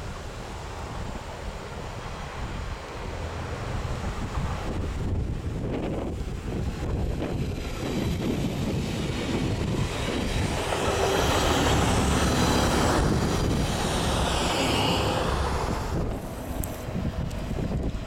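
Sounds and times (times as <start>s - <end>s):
train wheels rushing on rail: 0.0s - 18.0s.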